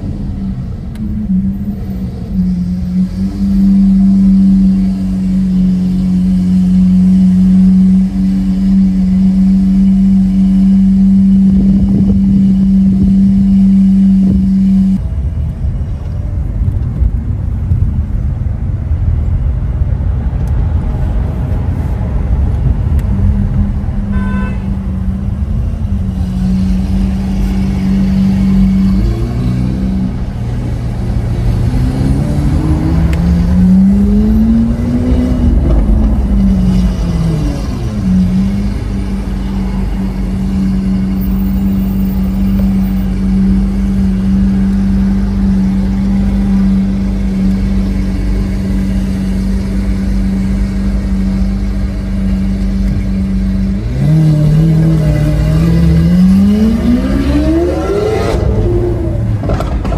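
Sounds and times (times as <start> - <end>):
car engine revving: 0.0 - 15.1, 20.5 - 59.9
car engine droning: 0.0 - 59.9.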